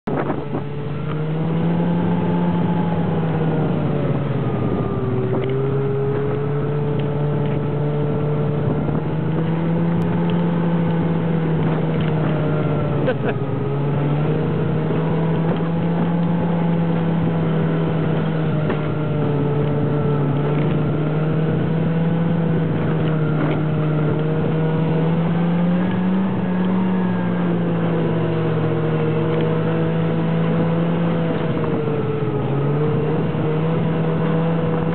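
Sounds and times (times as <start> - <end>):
snowmobile engine droning: 0.0 - 34.9.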